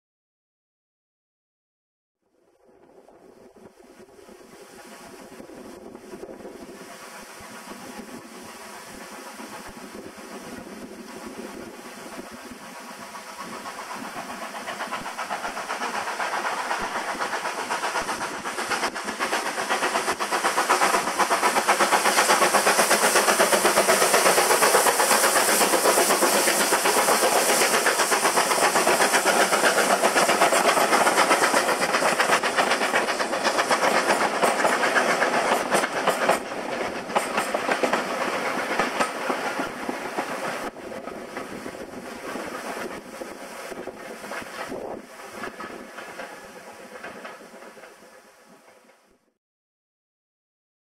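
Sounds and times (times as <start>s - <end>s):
steam locomotive passing: 2.4s - 49.3s.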